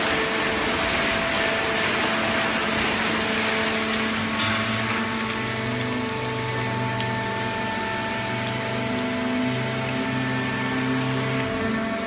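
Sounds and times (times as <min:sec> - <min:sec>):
deeper machine hum: 0:00.0 - 0:12.0
machinery humming: 0:00.0 - 0:12.0.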